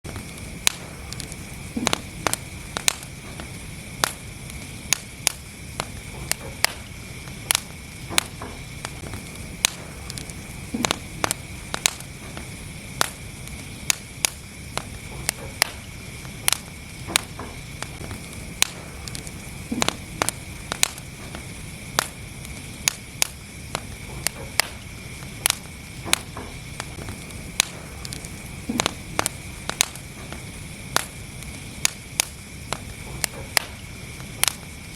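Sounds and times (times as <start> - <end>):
fire crackles and pops: 0.0 - 34.9
wood fire rumble and hiss: 0.0 - 34.9.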